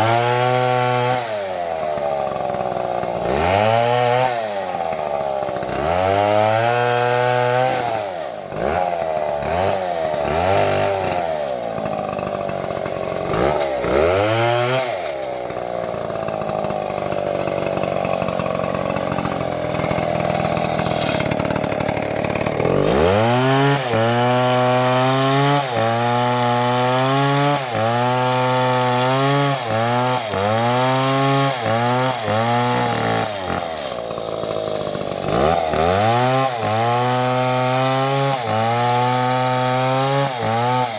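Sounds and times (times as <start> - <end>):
chainsaw cutting wood: 0.0 - 40.9
chainsaw engine revving: 0.0 - 40.9.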